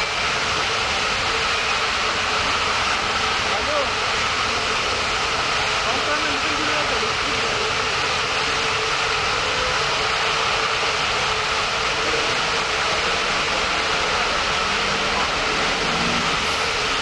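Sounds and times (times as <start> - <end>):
gas jet flame roaring: 0.0 - 17.0.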